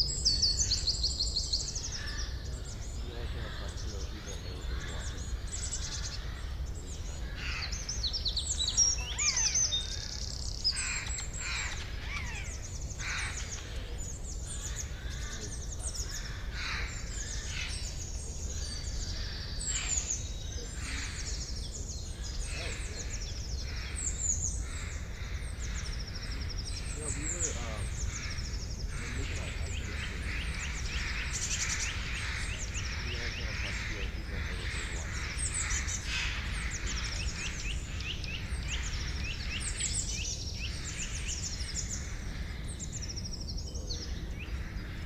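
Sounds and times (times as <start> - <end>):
birds chirping and singing: 0.0 - 45.0.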